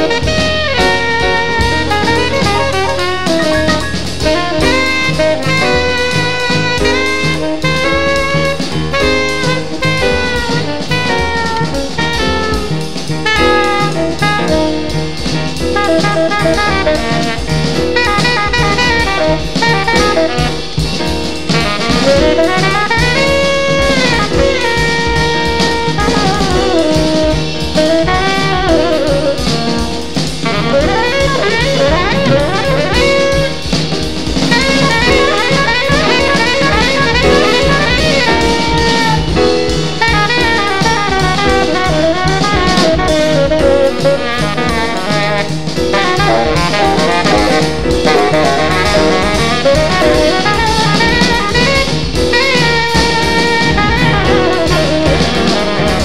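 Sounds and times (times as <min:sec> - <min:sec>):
drum kit playing: 0:00.0 - 0:56.0
jazz band playing: 0:00.0 - 0:56.0
saxophone melody: 0:00.0 - 0:56.0.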